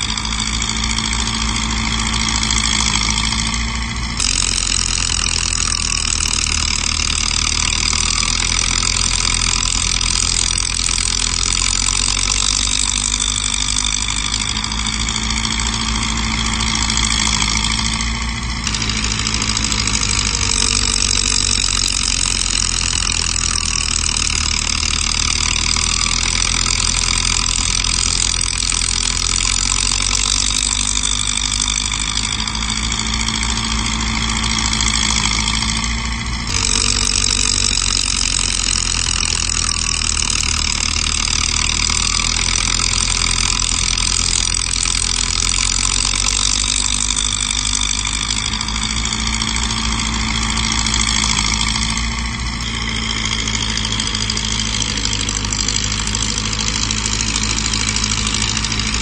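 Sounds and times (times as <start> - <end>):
diesel machinery engine drone: 0.0 - 59.0
high-pitched machinery whine: 0.0 - 59.0.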